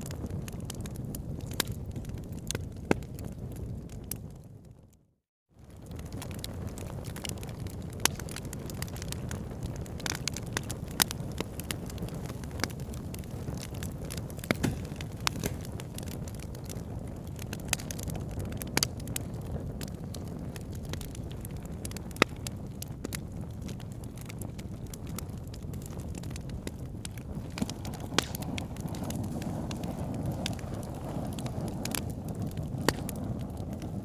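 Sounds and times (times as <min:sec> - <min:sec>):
fire crackling in fireplace: 0:00.0 - 0:05.0, 0:05.6 - 0:34.0.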